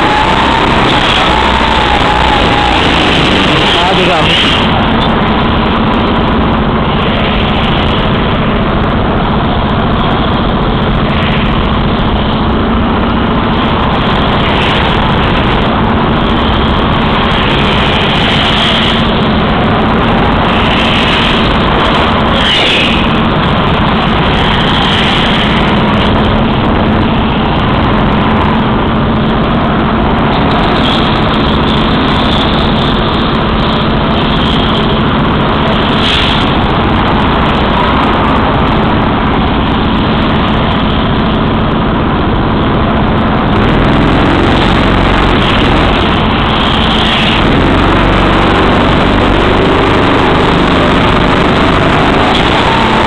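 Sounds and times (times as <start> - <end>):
go-kart engine running: 0.0 - 53.0
high-pitched squeals: 0.0 - 53.0.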